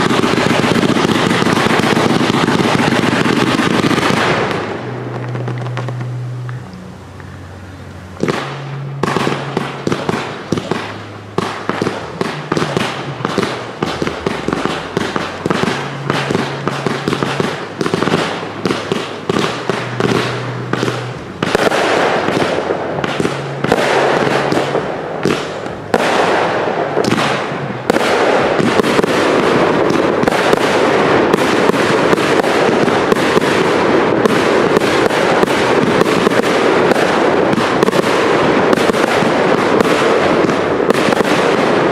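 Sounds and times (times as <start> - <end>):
fireworks firing: 0.0 - 41.9.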